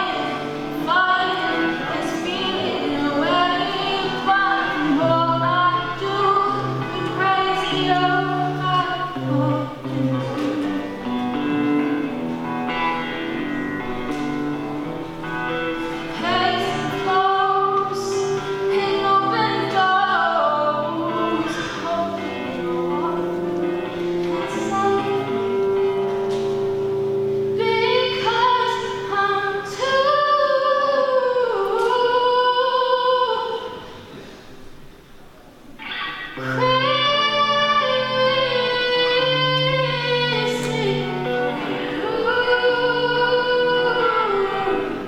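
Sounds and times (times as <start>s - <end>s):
woman singing slow song: 0.0s - 34.2s, 35.8s - 45.0s.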